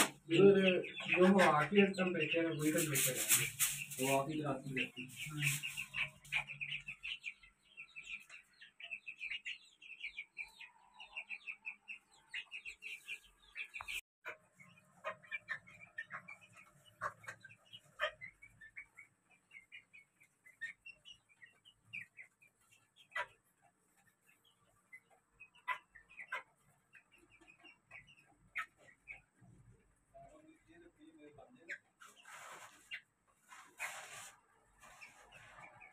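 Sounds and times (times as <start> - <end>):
chickens chirping: 0.0 - 35.9.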